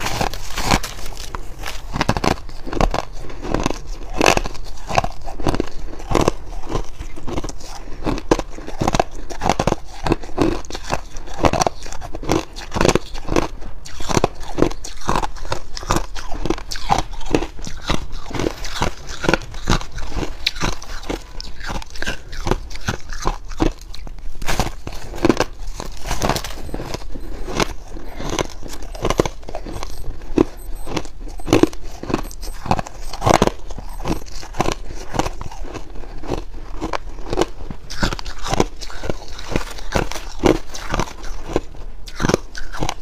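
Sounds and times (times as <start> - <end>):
shaved ice crunching while chewed: 0.0 - 43.0.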